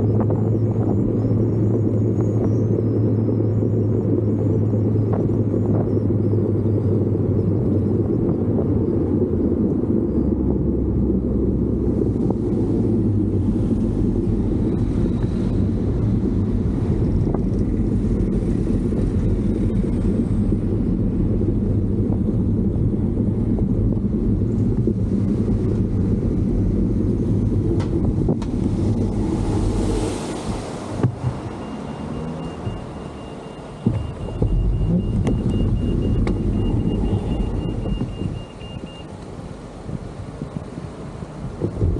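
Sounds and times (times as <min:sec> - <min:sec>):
moving vehicle engine hum: 0:00.0 - 0:41.9.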